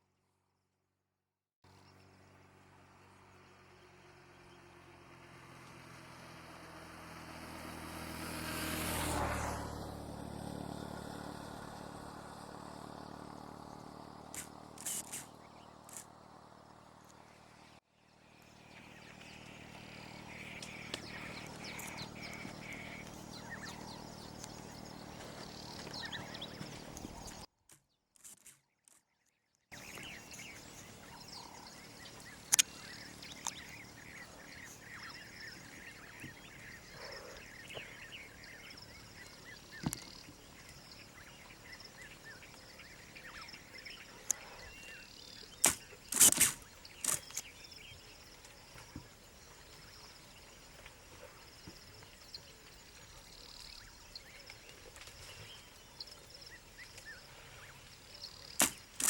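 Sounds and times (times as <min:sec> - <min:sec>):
birds chirping: 0:07.4 - 0:27.5, 0:29.7 - 0:59.0.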